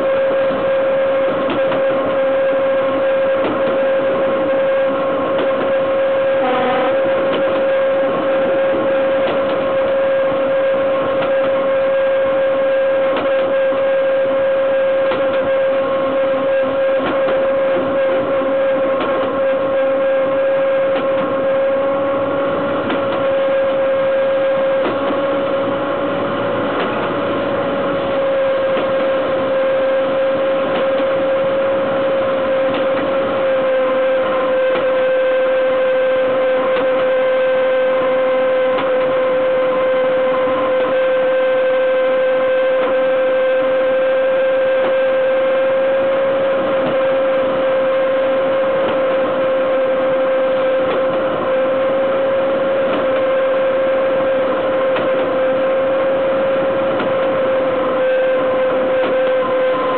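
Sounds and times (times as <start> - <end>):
locomotive wheels whining on rails: 0.0 - 59.9.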